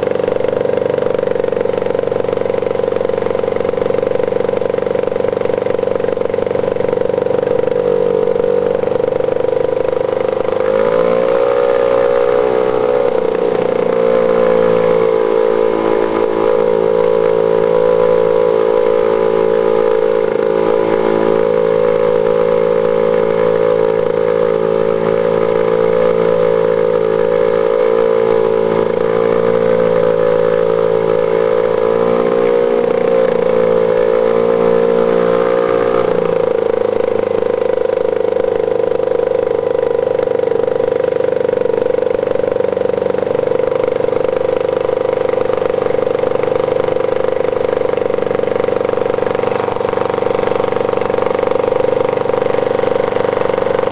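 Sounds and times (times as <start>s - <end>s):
outboard motor running: 0.0s - 53.9s.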